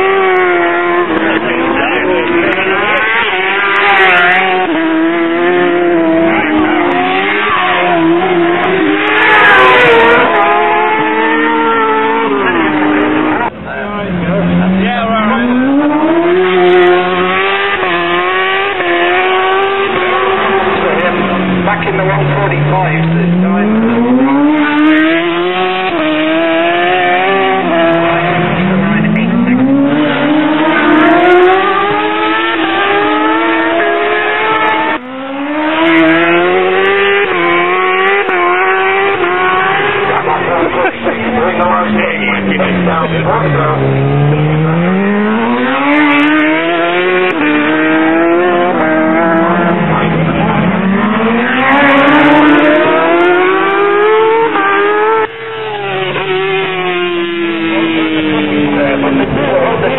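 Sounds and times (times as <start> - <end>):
motorcycle engine at full throttle: 0.0 - 59.9
superbikes accelerating at high revs: 0.0 - 59.9.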